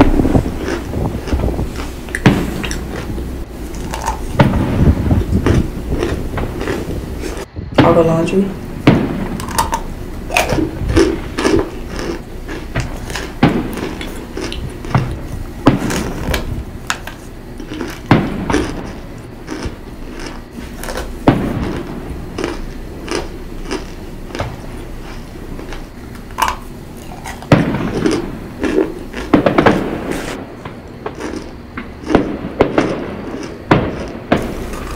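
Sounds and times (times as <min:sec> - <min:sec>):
crunching of cornstarch chunks: 0:00.0 - 0:07.5, 0:09.3 - 0:34.9.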